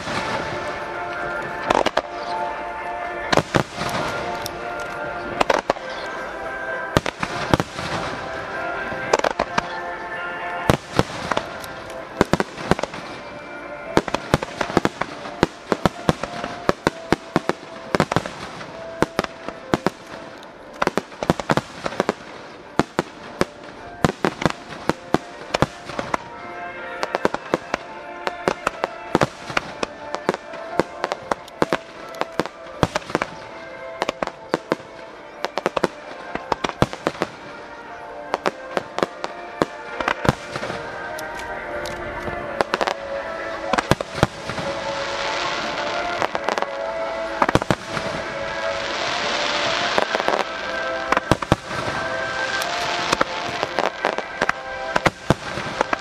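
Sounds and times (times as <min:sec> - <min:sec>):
music playing: 0:00.0 - 0:56.0.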